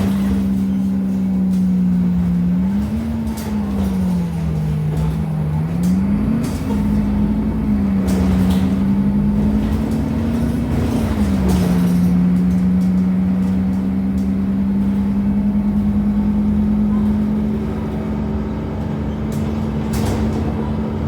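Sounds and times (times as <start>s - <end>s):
bus driveline humming: 0.0s - 21.0s.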